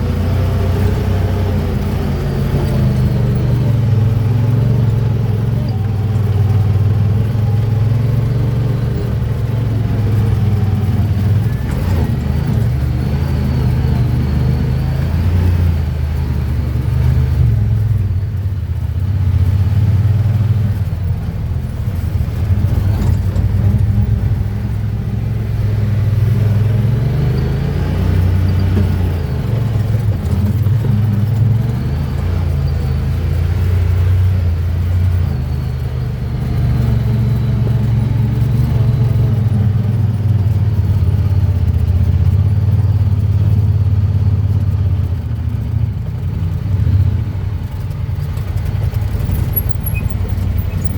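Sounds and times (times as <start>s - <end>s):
utility vehicle engine running: 0.0s - 50.9s.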